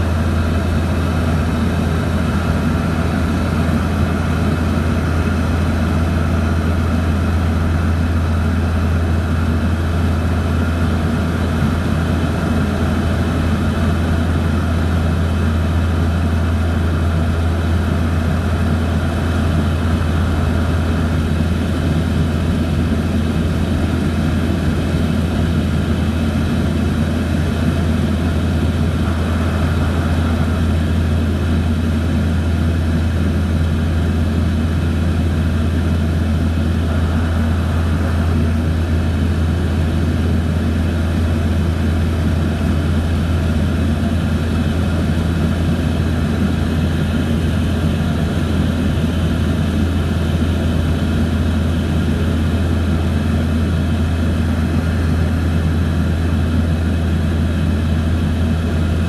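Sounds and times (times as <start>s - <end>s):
engine and propeller hum: 0.0s - 59.0s.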